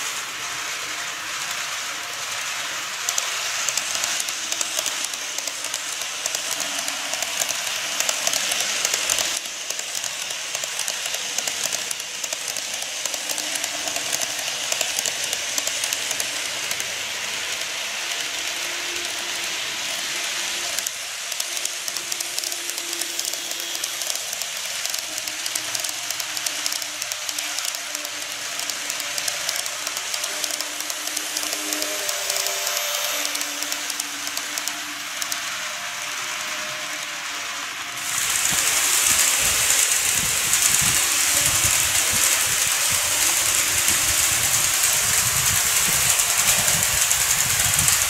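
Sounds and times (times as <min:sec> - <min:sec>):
model train wheels clicking on rails: 0:00.0 - 0:48.0.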